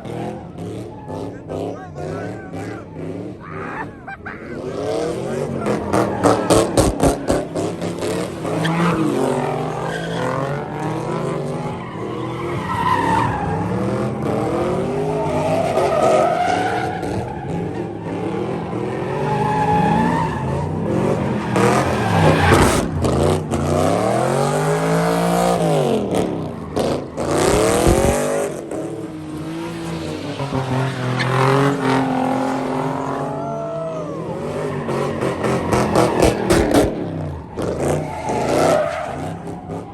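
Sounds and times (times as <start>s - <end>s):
car engine revving hard: 0.0s - 33.3s, 34.1s - 39.9s
tyres squealing and skidding: 0.0s - 39.9s.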